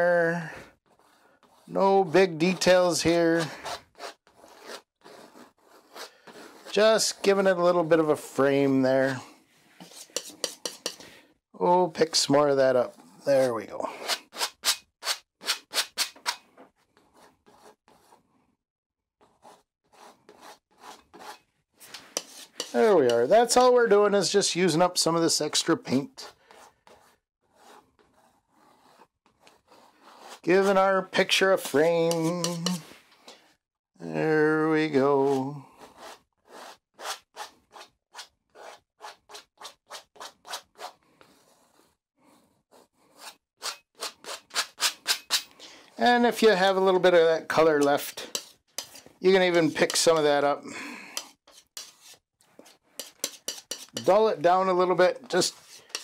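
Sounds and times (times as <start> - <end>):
palette knife scraping paint: 0.7 - 11.3, 12.8 - 18.3, 19.2 - 24.0, 25.0 - 33.0, 34.2 - 50.5, 51.2 - 56.0.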